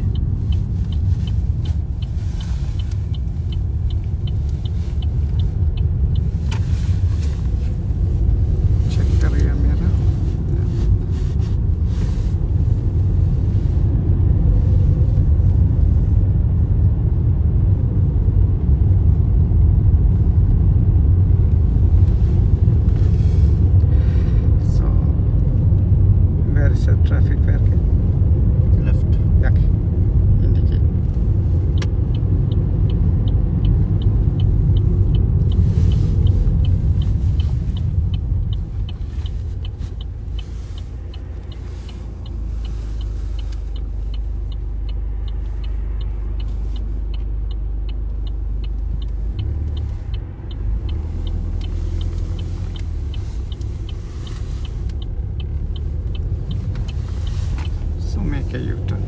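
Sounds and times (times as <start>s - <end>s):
car engine and road rumble: 0.0s - 59.0s
turn signal ticking: 0.0s - 59.0s.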